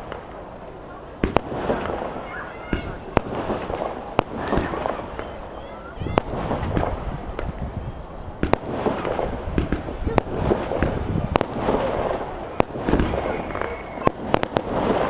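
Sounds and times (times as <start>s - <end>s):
fireworks bangs: 0.0s - 15.0s
noisy rumble: 0.0s - 15.0s.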